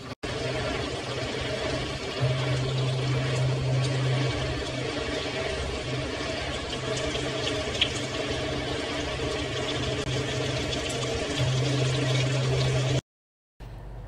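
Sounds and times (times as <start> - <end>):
steady low hum: 0.0 - 13.0
soup boiling: 0.2 - 13.0.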